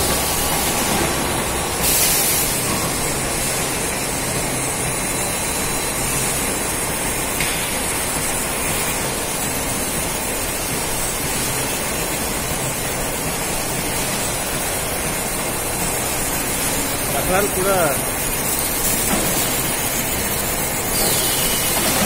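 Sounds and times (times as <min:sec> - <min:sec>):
production line machinery hissing: 0:00.0 - 0:22.0.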